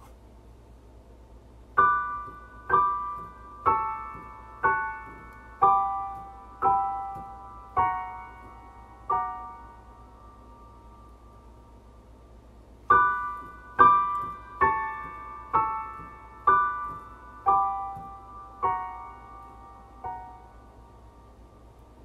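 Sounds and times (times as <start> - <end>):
slow high piano chords: 1.7 - 22.0.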